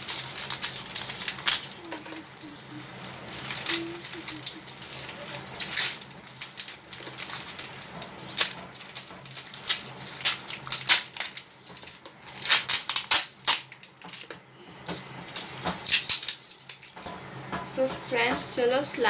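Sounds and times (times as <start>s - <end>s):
plastic wrap crinkling: 0.0s - 17.1s.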